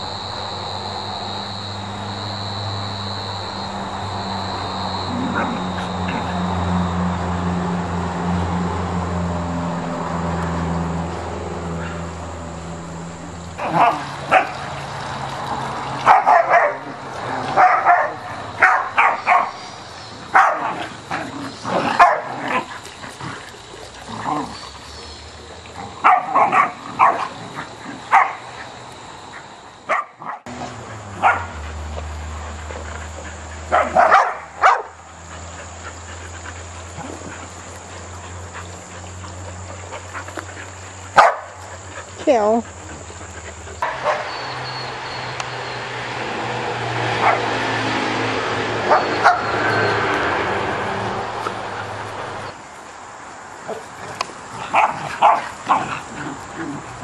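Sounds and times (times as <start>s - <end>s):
dogs barking and yipping: 4.6s - 52.7s, 53.4s - 57.0s.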